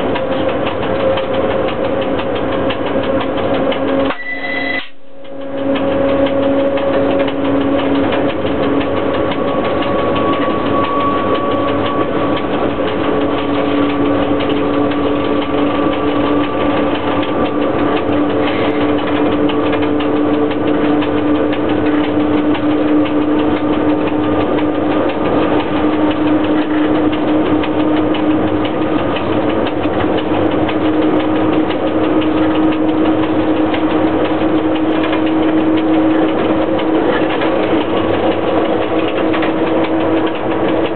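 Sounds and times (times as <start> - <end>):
locomotive cab mechanical noise: 0.0 - 40.9.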